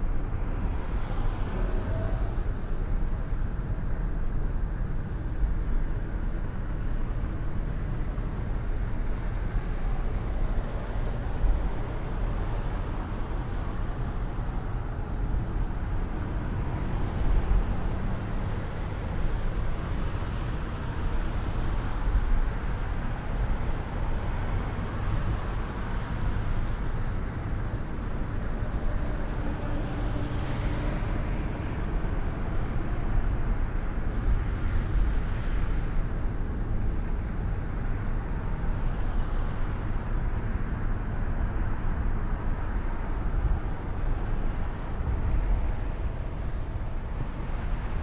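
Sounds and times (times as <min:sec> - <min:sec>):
car engine and tyre noise: 0:00.0 - 0:48.0
light traffic: 0:00.0 - 0:48.0.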